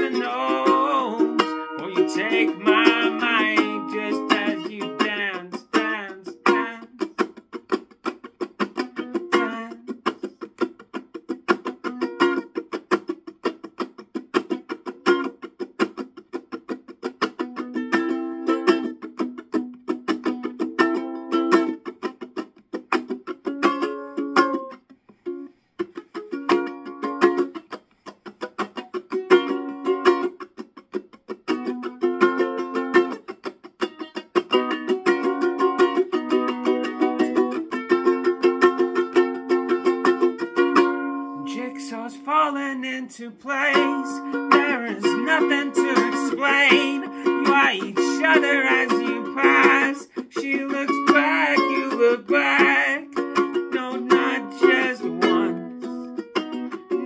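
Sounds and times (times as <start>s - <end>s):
ukulele strumming: 0.0s - 57.0s.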